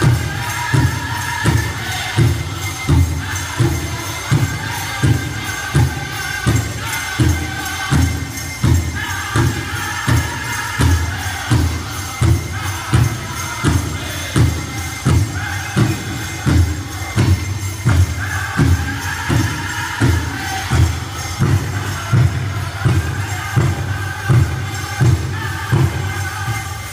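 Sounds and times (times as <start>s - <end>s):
bells jingling: 0.0s - 26.9s
group singing: 0.0s - 26.9s.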